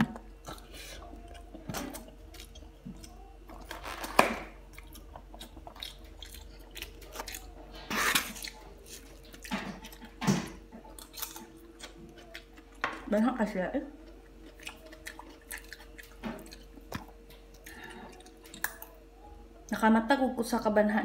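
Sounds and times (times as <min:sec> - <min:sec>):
person chewing food: 0:00.0 - 0:13.1, 0:13.9 - 0:19.3.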